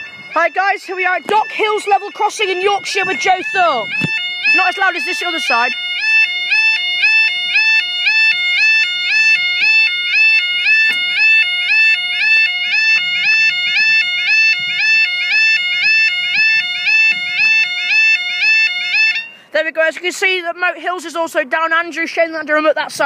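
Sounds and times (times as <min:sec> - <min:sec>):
level crossing two-tone alarm: 0:00.0 - 0:19.4.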